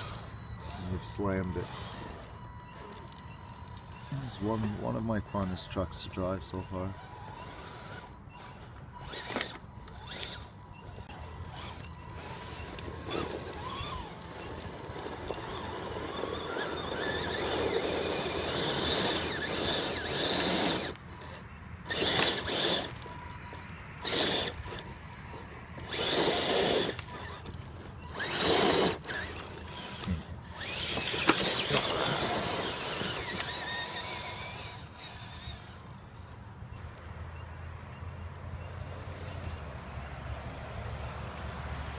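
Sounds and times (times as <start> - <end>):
toy truck electric motor whining: 0.0 - 37.2.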